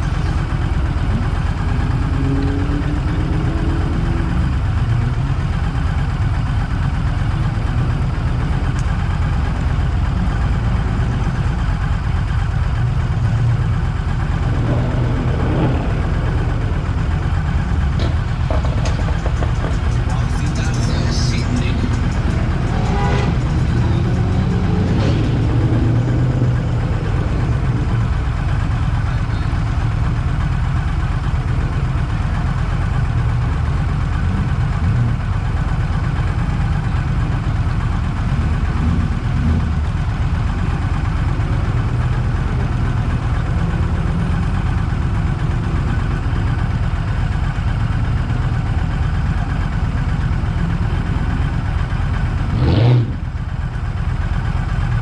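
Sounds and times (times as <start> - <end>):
car engine droning steadily: 0.0 - 55.0.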